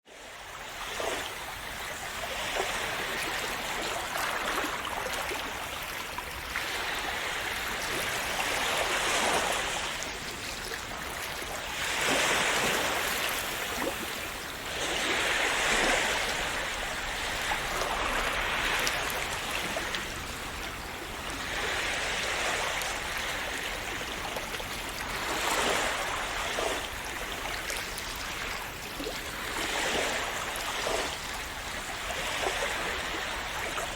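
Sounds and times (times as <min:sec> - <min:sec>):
sea waves washing in: 0:00.1 - 0:33.9.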